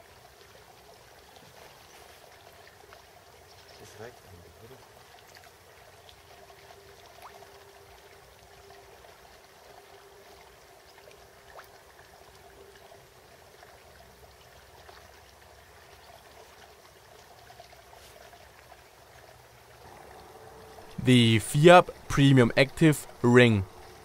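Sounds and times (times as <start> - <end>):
trickling water: 0.0 - 21.0.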